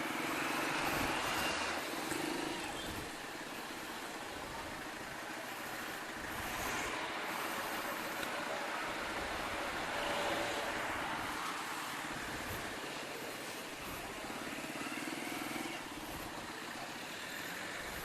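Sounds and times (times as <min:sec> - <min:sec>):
road traffic hiss: 0:00.0 - 0:18.0
vehicle engine hum: 0:00.0 - 0:18.0.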